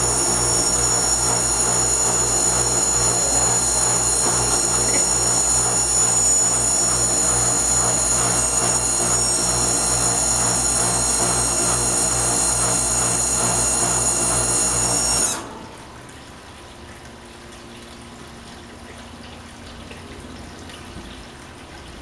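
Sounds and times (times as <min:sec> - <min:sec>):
air conditioner whining and humming: 0:00.0 - 0:22.0.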